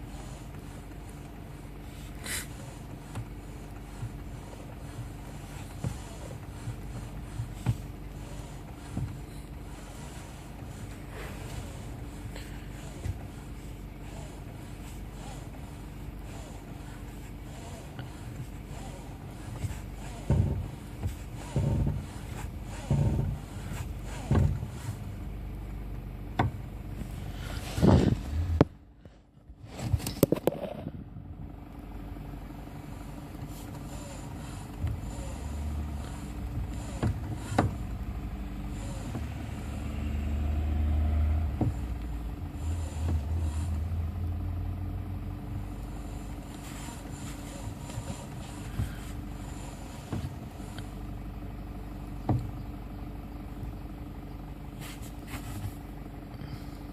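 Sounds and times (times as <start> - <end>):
car engine humming: 0.0 - 56.9
dull low knocking thuds: 2.5 - 29.2, 32.5 - 53.9.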